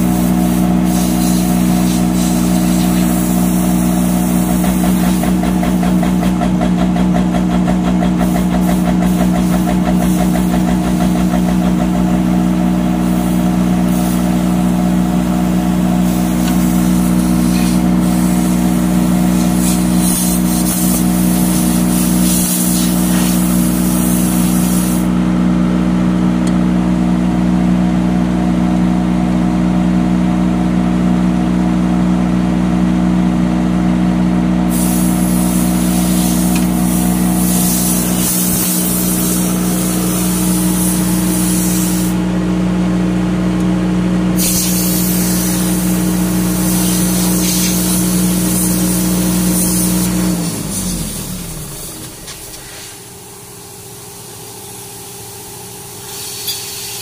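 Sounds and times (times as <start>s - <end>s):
generator engine humming: 0.0s - 56.0s.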